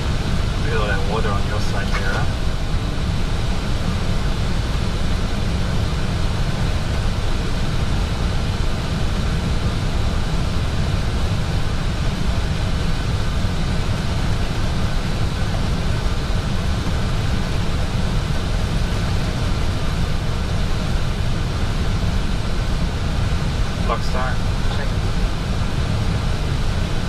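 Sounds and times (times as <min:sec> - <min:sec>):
aircraft cockpit roar: 0:00.0 - 0:27.0.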